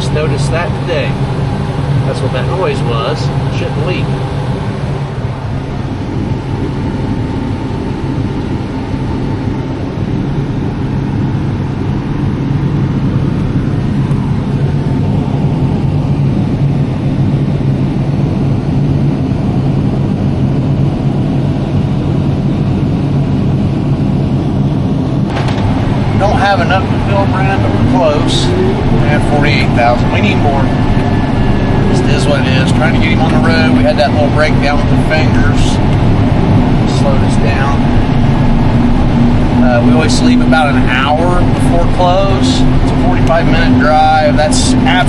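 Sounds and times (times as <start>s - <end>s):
tractor engine droning: 0.0s - 45.0s.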